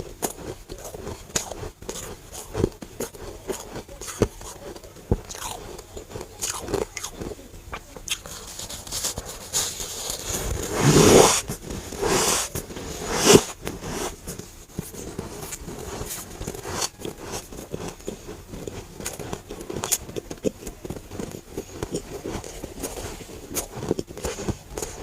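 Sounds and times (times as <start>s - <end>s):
frost being bitten and chewed: 0.0s - 10.5s, 13.3s - 25.0s.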